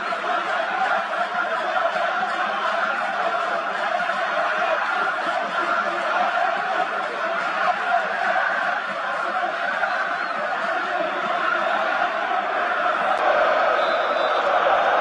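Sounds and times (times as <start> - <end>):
stadium crowd din: 0.0 - 15.0.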